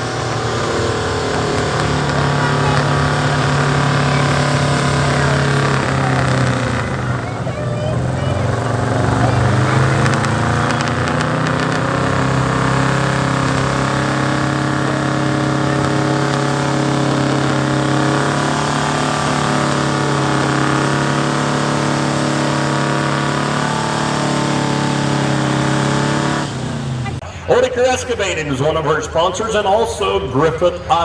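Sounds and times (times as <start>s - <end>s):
truck engine at high revs: 0.0s - 27.7s.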